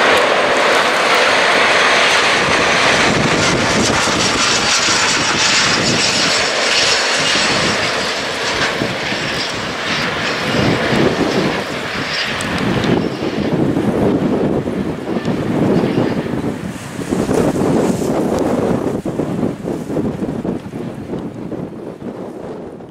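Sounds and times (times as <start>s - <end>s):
train rolling on rails: 0.0s - 21.2s
wind buffeting microphone: 0.0s - 22.9s.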